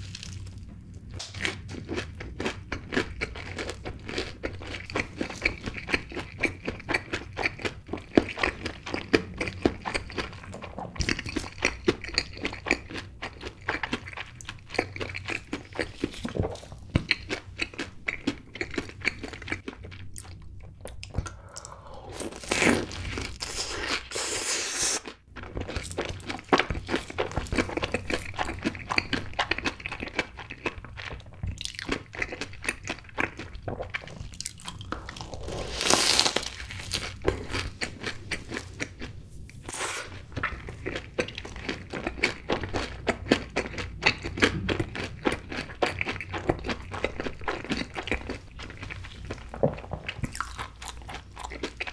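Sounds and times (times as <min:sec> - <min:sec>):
crunching and chewing: 0:00.0 - 0:24.3, 0:25.0 - 0:51.9.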